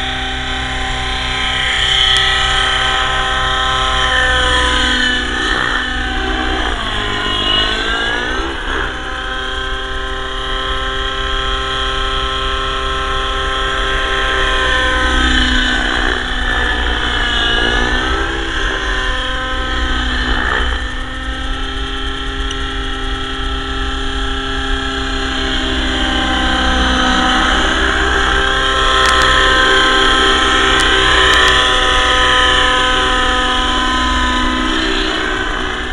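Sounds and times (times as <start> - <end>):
toy helicopter motor whine: 0.0 - 35.9.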